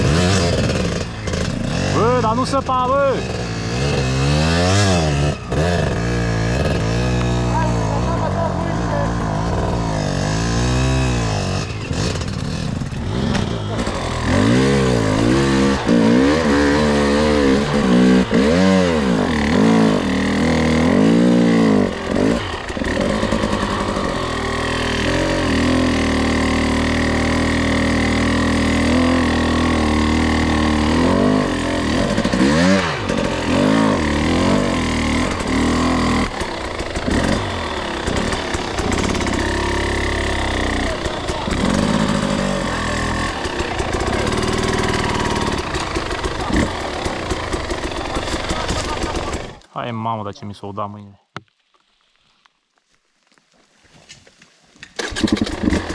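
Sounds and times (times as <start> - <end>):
dirt bike engine revving: 0.0 - 49.7, 55.0 - 55.9.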